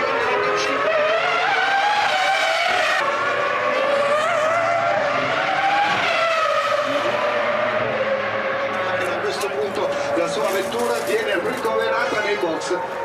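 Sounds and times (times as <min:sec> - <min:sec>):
high-revving race car engine: 0:00.0 - 0:13.0.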